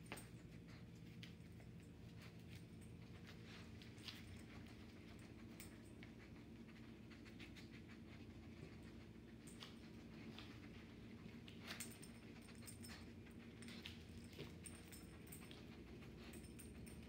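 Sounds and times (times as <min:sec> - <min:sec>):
light ticks of paws: 0:00.0 - 0:17.0
low steady hum: 0:00.0 - 0:17.0
dog sniffing: 0:00.3 - 0:17.0.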